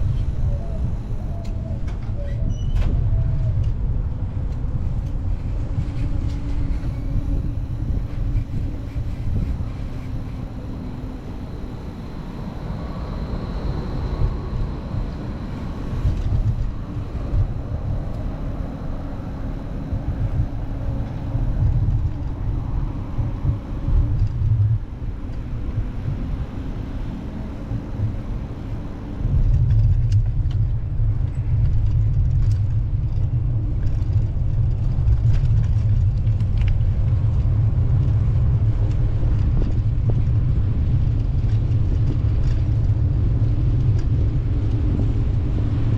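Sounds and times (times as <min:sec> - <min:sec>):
wind and road noise rumble: 0:00.0 - 0:45.9.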